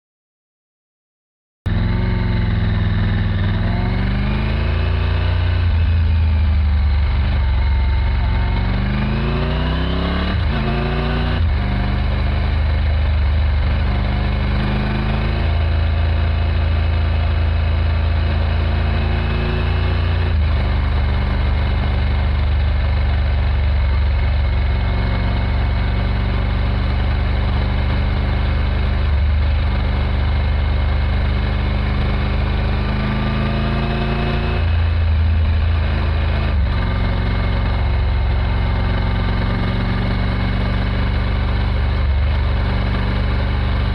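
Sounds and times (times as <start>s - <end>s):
motorcycle engine revving: 1.7s - 43.9s.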